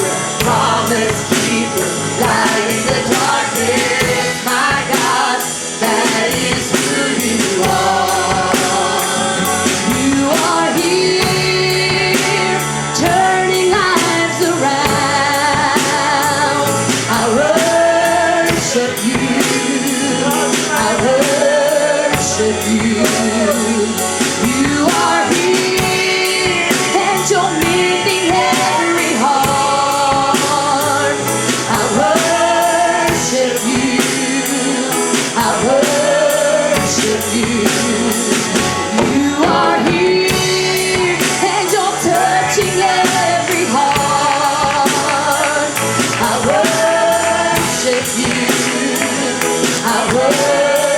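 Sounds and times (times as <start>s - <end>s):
gospel singers with band: 0.0s - 50.9s.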